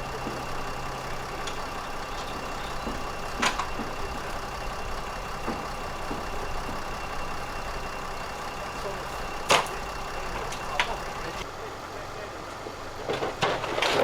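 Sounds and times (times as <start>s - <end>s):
diesel truck engine running: 0.0s - 13.6s.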